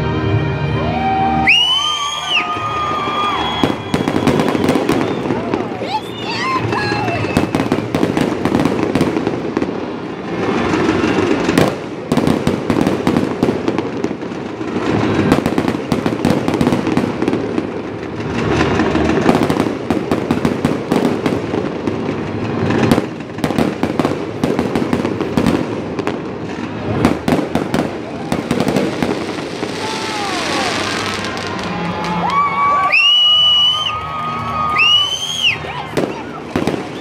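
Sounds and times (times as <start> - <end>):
fireworks bangs: 1.5 - 37.0
fireworks popping and crackling: 1.5 - 37.0.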